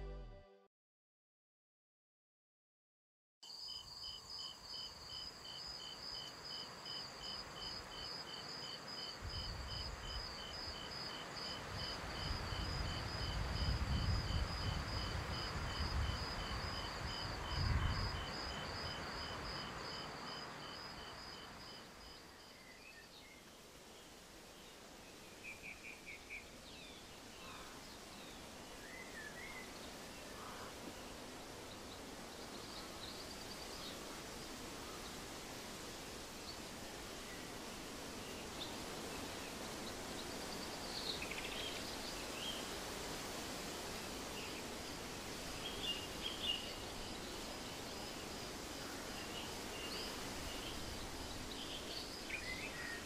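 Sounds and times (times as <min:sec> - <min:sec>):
crickets chirping: 0:03.5 - 0:24.6, 0:27.4 - 0:53.0.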